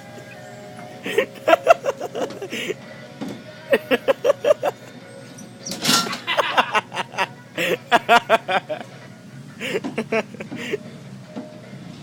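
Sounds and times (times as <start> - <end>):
kiddie ride tune: 0.0 - 11.8.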